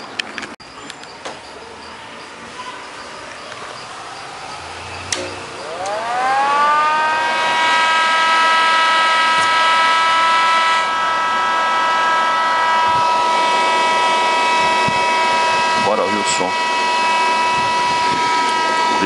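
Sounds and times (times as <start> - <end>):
cooling fan whining: 2.0 - 19.0.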